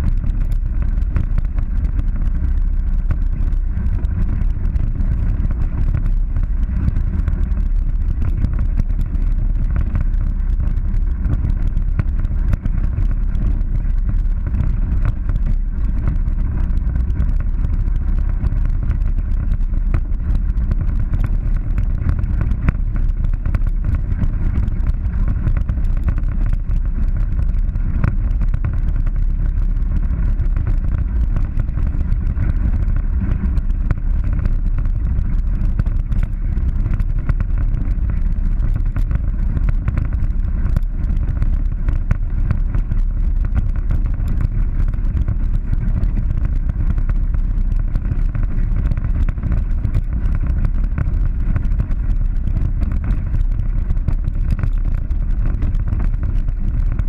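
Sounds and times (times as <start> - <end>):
vehicle engine rumble: 0.0 - 57.0
wind on microphone: 0.0 - 57.0.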